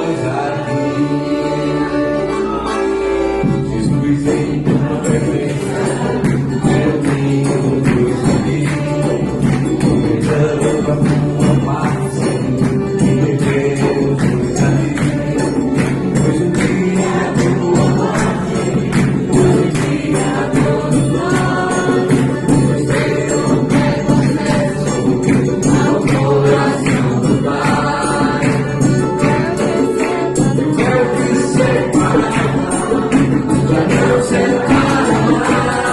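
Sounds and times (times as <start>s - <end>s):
jingling tambourine: 0.0s - 35.9s
voices singing together: 0.0s - 35.9s
steady beat: 2.7s - 35.9s.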